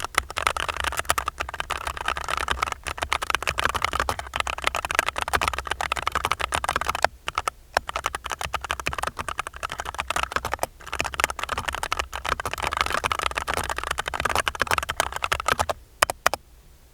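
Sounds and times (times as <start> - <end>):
fast typing on mechanical keyboard: 0.0 - 16.4.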